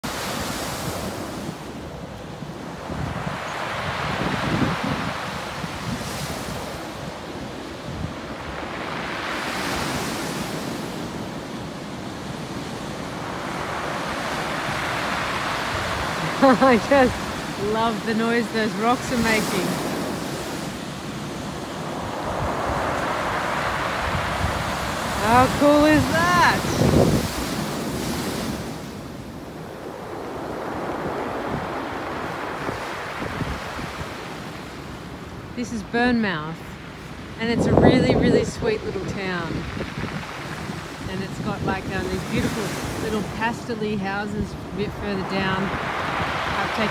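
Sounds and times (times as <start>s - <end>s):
wind buffeting microphone: 0.0s - 35.6s, 36.8s - 46.9s
waves on a shingle beach: 0.0s - 46.9s.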